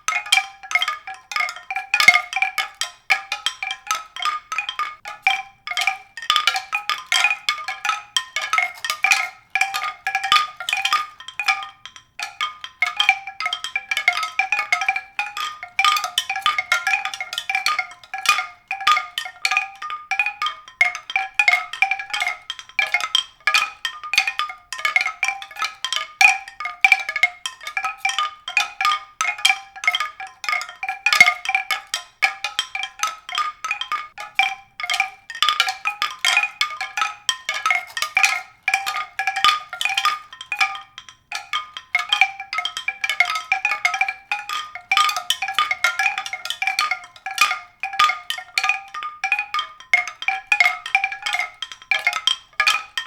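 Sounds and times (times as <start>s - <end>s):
marimba notes: 0.0s - 53.0s.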